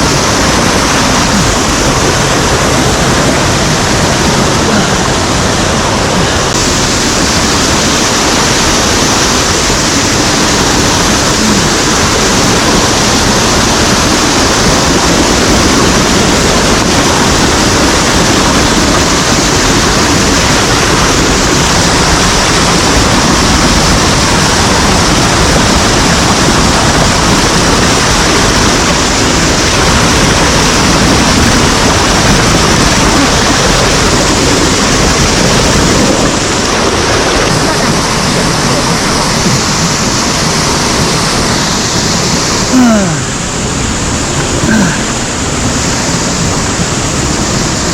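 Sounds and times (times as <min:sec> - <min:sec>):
mountain stream rushing: 0:00.0 - 0:47.9.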